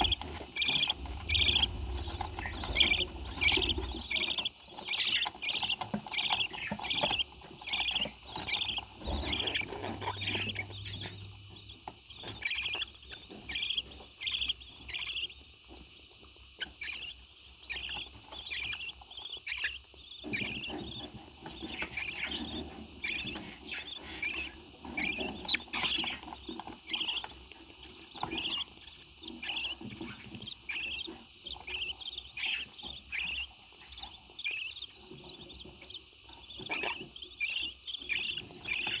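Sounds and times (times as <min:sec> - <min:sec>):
parrot chirping: 0:00.0 - 0:39.0.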